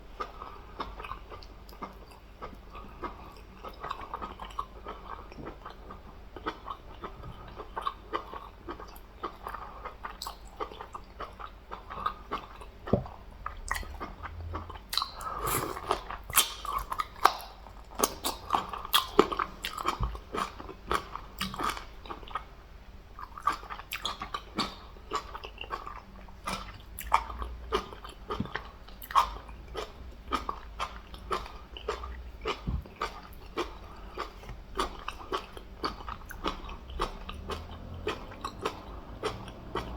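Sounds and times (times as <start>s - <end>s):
person chewing food: 0.0s - 22.5s, 23.1s - 39.9s.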